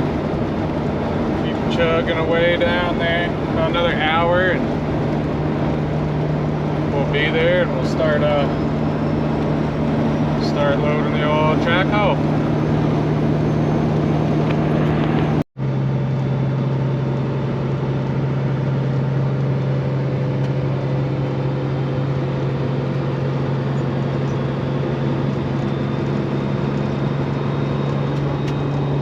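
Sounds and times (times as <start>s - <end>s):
diesel truck engine drone: 0.0s - 29.0s.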